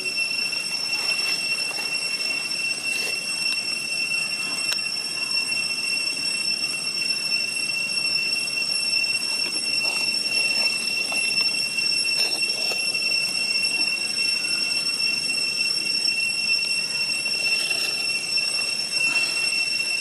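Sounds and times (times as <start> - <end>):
cicadas singing: 0.0 - 20.0.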